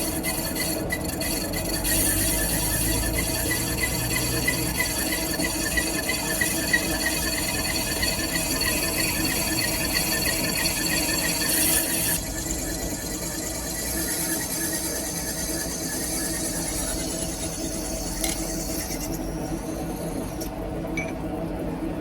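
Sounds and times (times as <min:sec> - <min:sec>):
lathe hiss: 0:00.0 - 0:20.5
rhythmic high squeak: 0:00.0 - 0:20.6.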